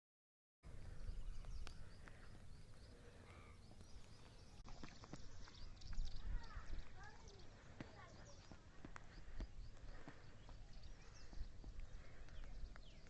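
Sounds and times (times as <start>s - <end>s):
faint bird chirps: 0.7s - 13.0s.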